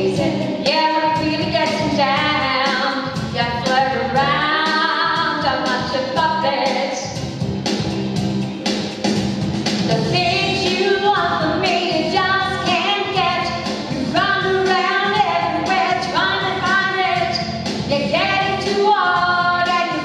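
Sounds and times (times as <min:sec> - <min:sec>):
woman singing into a microphone: 0:00.0 - 0:07.2, 0:09.9 - 0:20.0
instrumental backing music: 0:00.0 - 0:20.0.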